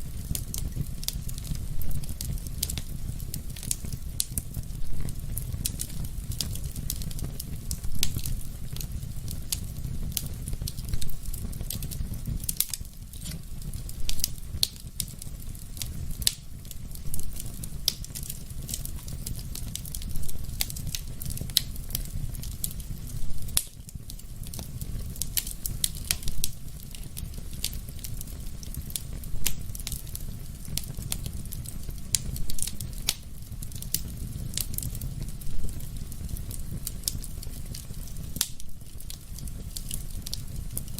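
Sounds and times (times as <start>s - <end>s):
fire crackling and popping: 0.0s - 40.9s
fire rumbling: 0.0s - 40.9s.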